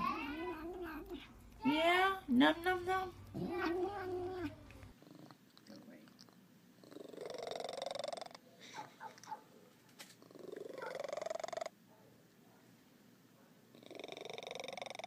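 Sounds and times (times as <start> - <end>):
cat purring: 0.0 - 9.4, 10.0 - 11.8, 13.7 - 15.0.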